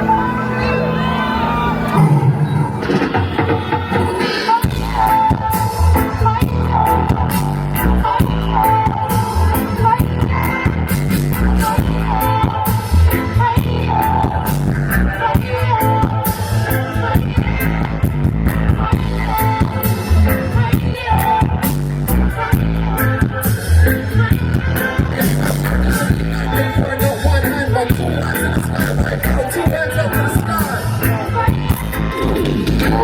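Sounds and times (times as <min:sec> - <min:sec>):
reggae band playing: 0:00.0 - 0:33.0.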